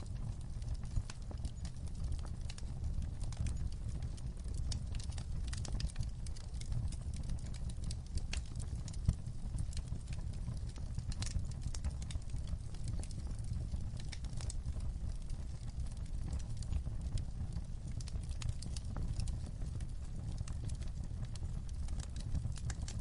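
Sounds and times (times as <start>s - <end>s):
fire crackling and popping: 0.0s - 23.0s
low steady rumble: 0.0s - 23.0s.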